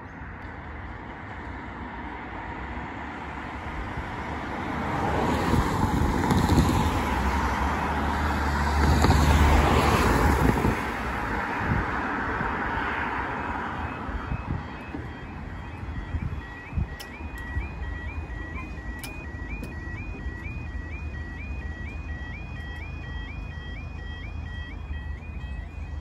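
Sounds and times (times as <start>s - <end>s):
cars driving past: 0.0s - 26.0s.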